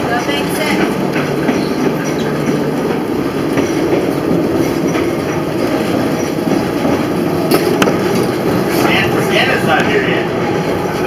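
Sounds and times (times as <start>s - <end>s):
steel wheels rumbling on rail: 0.0s - 11.0s
streetcar clicks: 0.0s - 11.0s.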